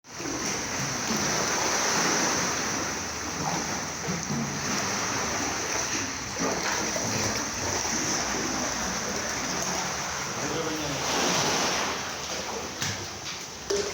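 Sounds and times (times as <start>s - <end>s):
sea water splashing: 0.0s - 13.9s.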